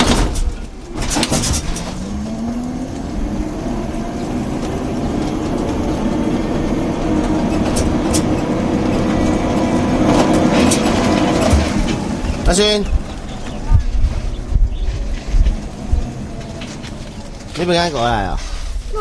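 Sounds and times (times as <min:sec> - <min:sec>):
vehicle engine running: 0:00.0 - 0:18.9.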